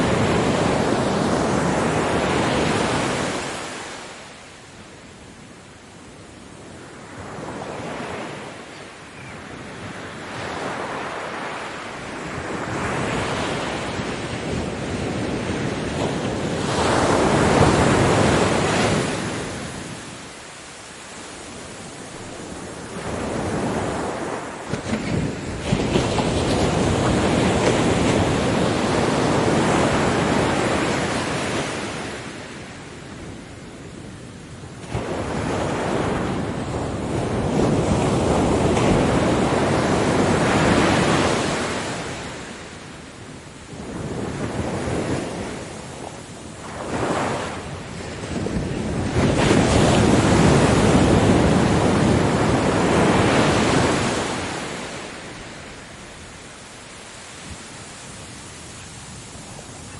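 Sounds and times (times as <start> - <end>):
ocean waves breaking: 0.0 - 4.9, 6.5 - 33.0, 34.7 - 59.9.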